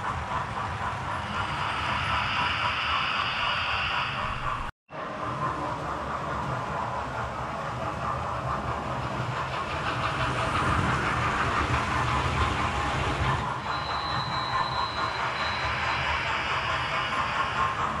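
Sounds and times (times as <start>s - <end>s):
model train wheels clicking on rails: 0.0s - 18.0s.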